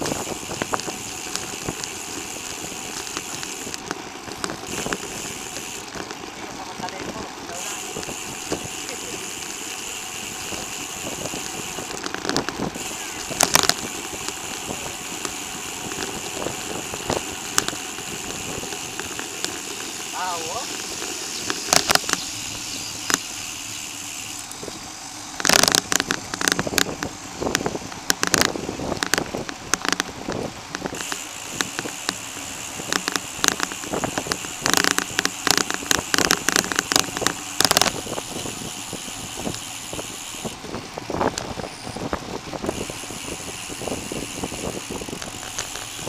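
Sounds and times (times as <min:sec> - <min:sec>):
bicycle tyre hiss: 0:00.0 - 0:06.3, 0:07.5 - 0:46.0
bicycle rattling clicks: 0:00.0 - 0:46.0
wind: 0:00.0 - 0:46.0.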